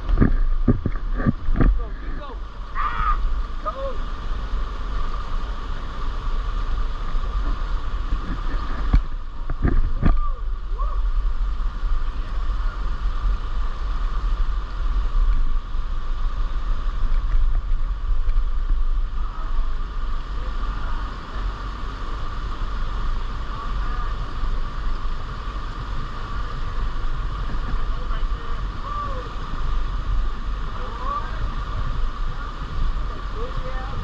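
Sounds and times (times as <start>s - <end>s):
creek water rushing: 0.0s - 34.0s
wind rumbling on microphone: 0.0s - 34.0s.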